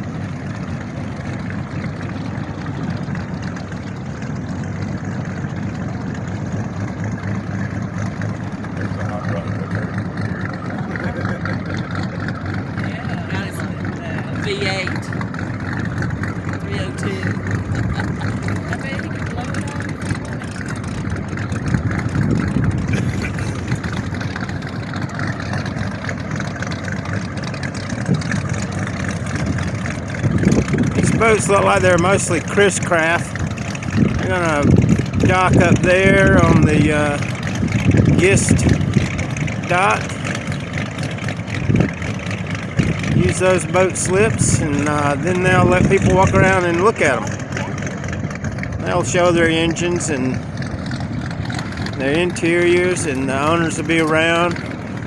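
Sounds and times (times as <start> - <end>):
motorboat engines rumbling: 0.0 - 55.0.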